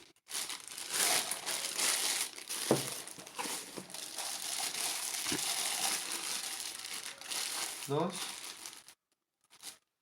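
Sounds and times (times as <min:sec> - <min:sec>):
packing material crinkling: 0:00.0 - 0:09.8.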